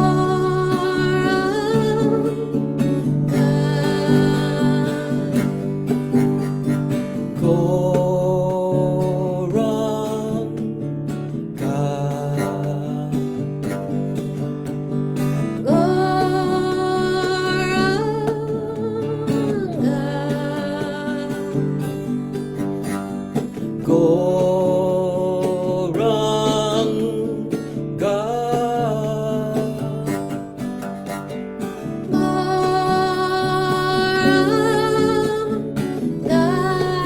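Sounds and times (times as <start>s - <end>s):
person singing without words: 0.0s - 14.1s, 15.6s - 30.7s, 31.9s - 37.0s
strummed acoustic guitar: 0.0s - 37.0s.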